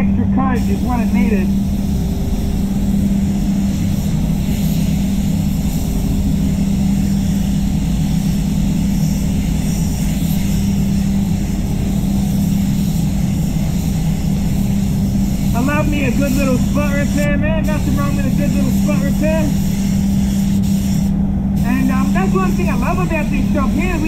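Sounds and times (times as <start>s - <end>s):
air system drone with low hum: 0.0s - 24.0s
paint spray gun hissing: 0.5s - 24.0s.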